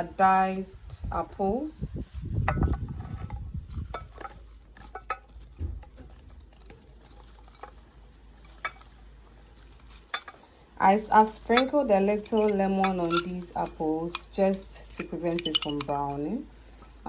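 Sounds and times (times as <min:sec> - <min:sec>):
utensils clinking against dishes: 0:02.1 - 0:17.0.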